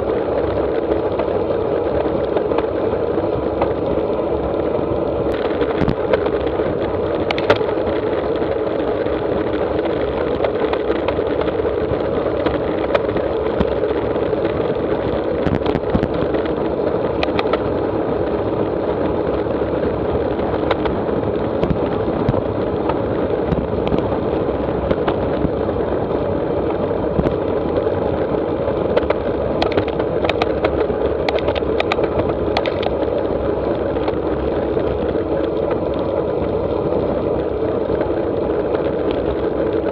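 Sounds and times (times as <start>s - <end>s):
road tyre noise: 0.0s - 39.9s
wind rush: 0.0s - 39.9s.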